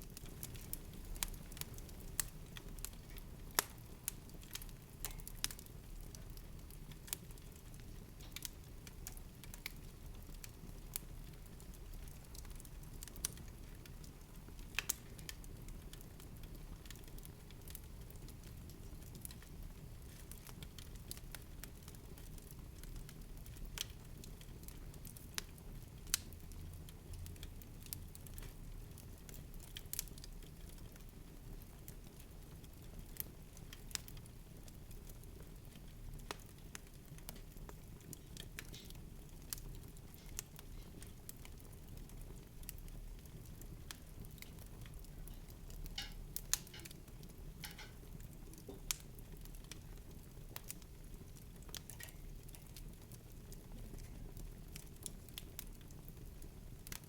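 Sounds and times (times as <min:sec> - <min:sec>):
soft crackles and clicks: 0:00.0 - 0:57.0.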